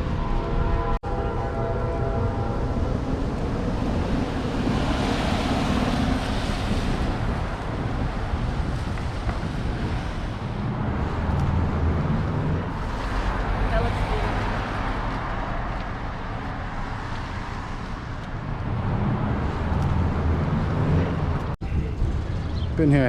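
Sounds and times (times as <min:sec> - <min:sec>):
wind rushing on microphone: 0:02.2 - 0:23.0.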